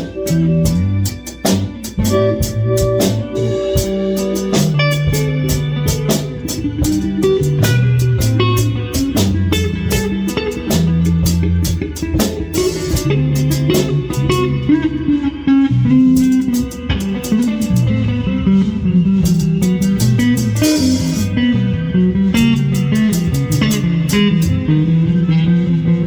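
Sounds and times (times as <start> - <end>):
drum kit with cymbal hits: 0.0 - 14.8, 16.1 - 21.6, 22.4 - 24.7
electric guitar: 0.0 - 26.0
walking bass line: 0.0 - 26.0.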